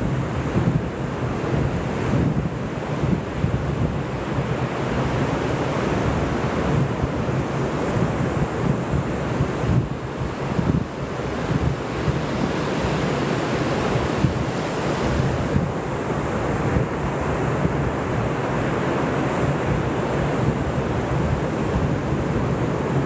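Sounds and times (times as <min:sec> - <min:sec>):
ocean surf on beach: 0:00.0 - 0:23.0
wind buffeting microphone: 0:00.0 - 0:23.0.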